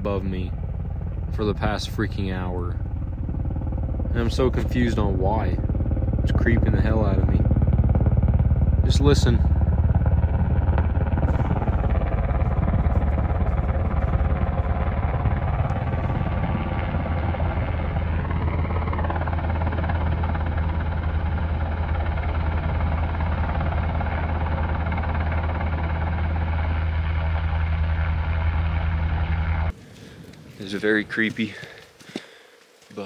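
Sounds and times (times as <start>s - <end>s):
helicopter rotor drone: 0.0s - 31.8s
helicopter whine: 0.0s - 32.0s.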